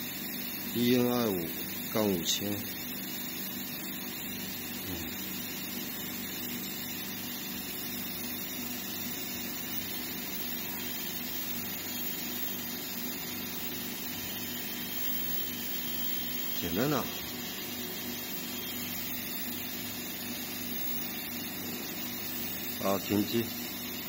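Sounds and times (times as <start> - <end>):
motor spindle whirring: 2.6 - 24.0.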